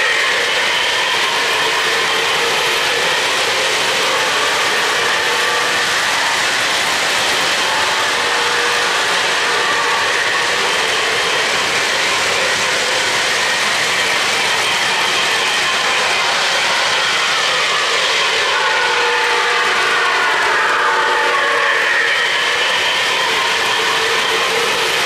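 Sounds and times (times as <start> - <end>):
model train wheels clattering on rails: 0.0 - 25.0.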